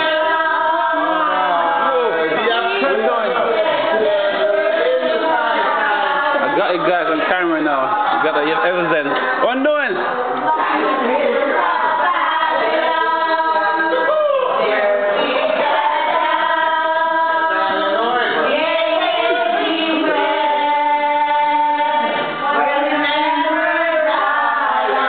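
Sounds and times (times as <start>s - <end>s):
person singing into microphone: 0.0s - 25.0s.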